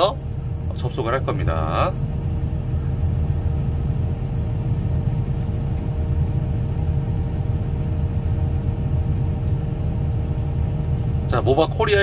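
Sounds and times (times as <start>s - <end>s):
diesel engine idling: 0.0s - 12.0s
faint steady whine: 0.0s - 12.0s.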